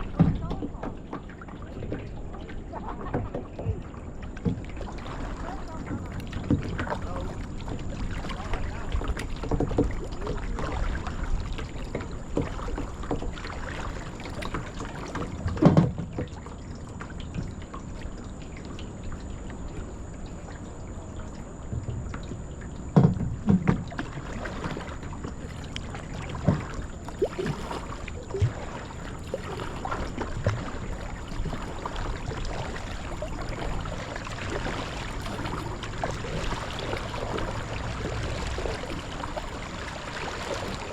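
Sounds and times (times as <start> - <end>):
water dripping off paddle: 0.0 - 40.9.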